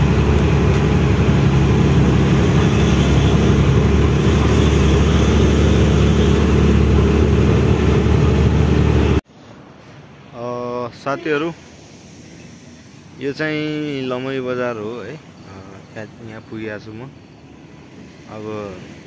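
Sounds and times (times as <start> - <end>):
diesel truck engine and road noise: 0.0 - 19.0.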